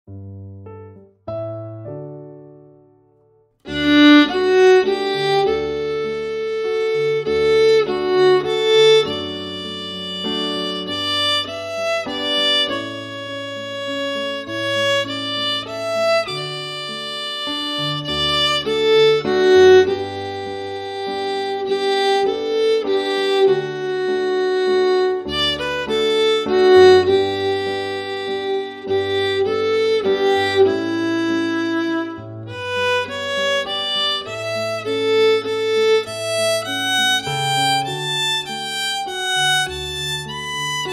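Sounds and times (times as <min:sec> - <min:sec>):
held chord: 0:03.6 - 0:40.9
fiddle playing lively melody: 0:03.7 - 0:40.9.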